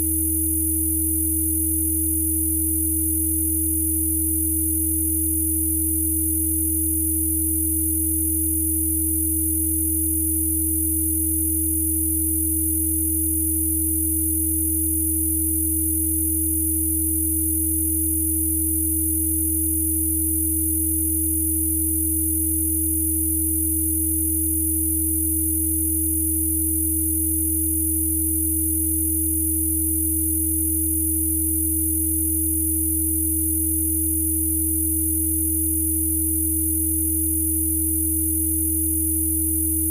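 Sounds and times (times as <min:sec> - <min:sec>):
steady electronic sine tones: 0:00.0 - 0:39.9.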